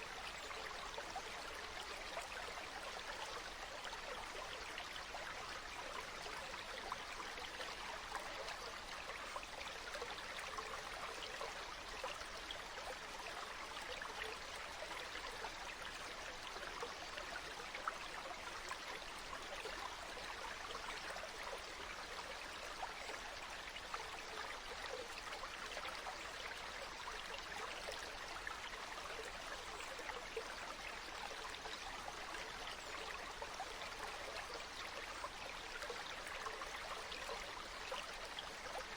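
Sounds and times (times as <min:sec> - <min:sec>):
stream running over stones: 0:00.0 - 0:38.9.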